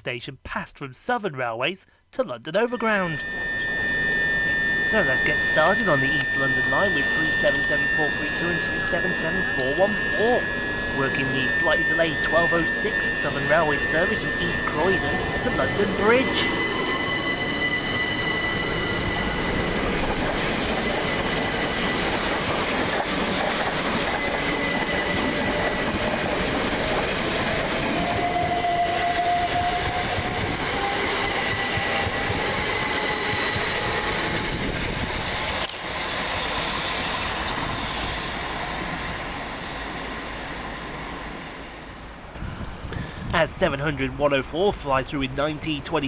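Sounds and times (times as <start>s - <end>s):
traction motor whine: 3.0s - 42.3s
train wheels rumbling on rail: 4.9s - 44.2s.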